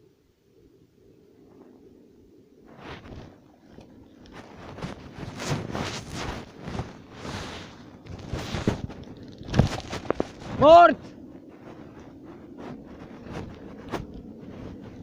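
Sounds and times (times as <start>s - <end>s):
rustling: 2.6s - 15.0s
footsteps on rough ground: 2.7s - 15.0s.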